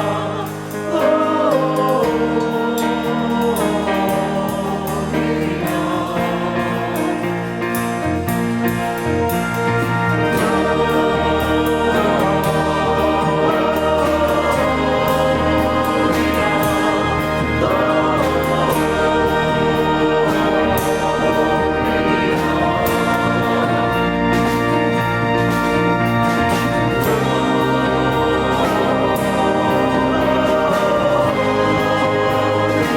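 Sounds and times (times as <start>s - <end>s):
choir singing sustained chords: 0.0s - 32.9s
instrumental accompaniment: 0.0s - 32.9s.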